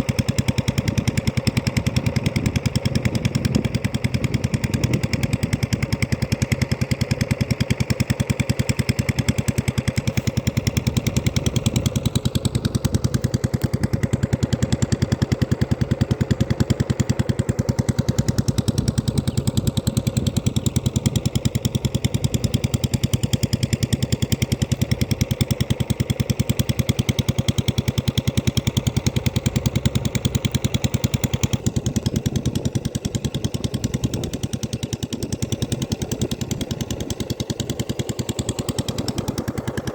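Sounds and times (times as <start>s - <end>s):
diesel pump engine chugging: 0.0s - 39.9s.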